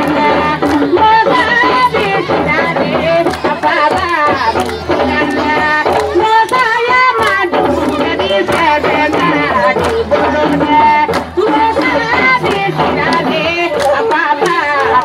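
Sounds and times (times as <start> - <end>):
percussion strikes: 0.0 - 15.0.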